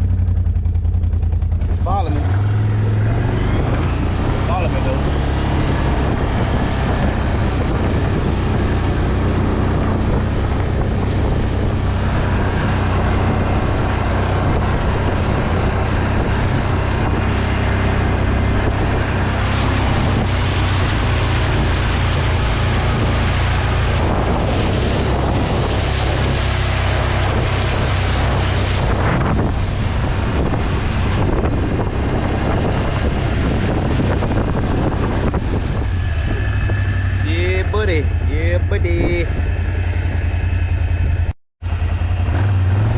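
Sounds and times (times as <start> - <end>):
atv engine running under load: 0.0 - 42.9
wind buffeting microphone: 0.0 - 42.9.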